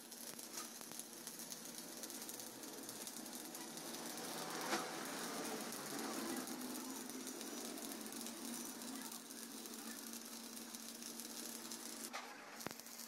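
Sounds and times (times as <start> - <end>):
sharp welding pop: 0.0 - 13.0
welding arc crackling: 0.0 - 13.0.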